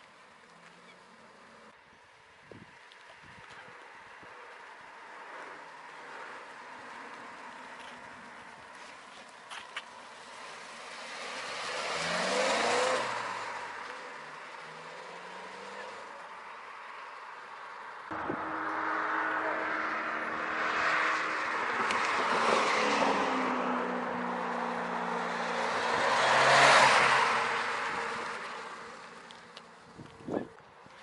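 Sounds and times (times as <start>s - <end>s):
car driving past: 4.6s - 29.6s.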